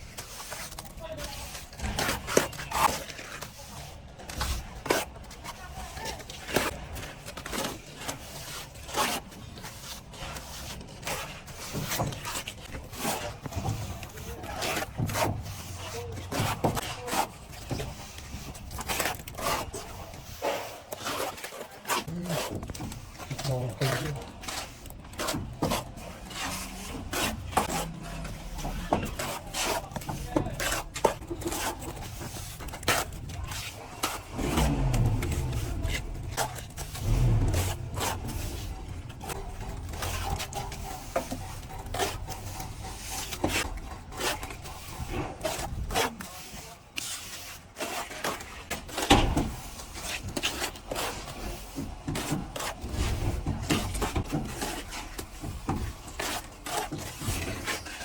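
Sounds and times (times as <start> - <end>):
plastering tools scraping and knocking: 0.0 - 58.0.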